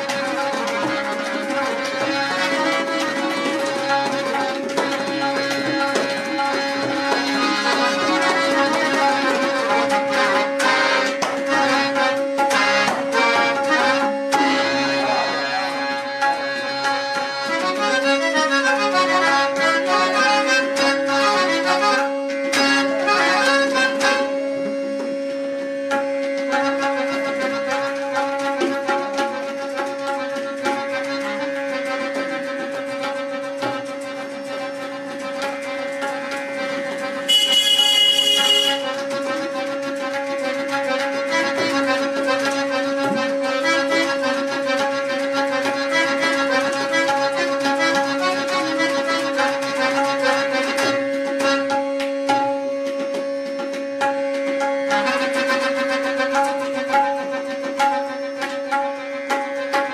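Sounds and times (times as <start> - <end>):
harmonium melody: 0.0 - 59.9
tabla drumming: 0.0 - 59.9.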